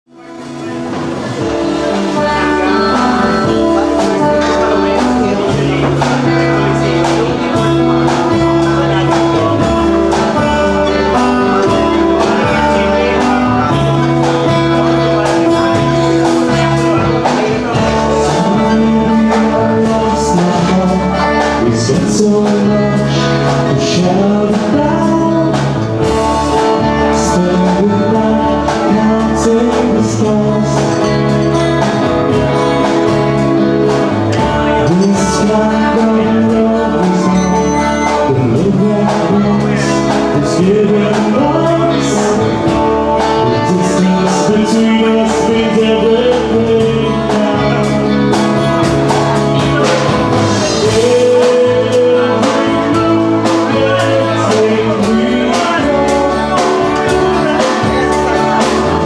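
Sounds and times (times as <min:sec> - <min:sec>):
bass guitar: 0:00.0 - 0:59.0
drums: 0:00.0 - 0:59.0
man singing: 0:00.1 - 0:59.0
strummed acoustic guitar: 0:00.1 - 0:59.0.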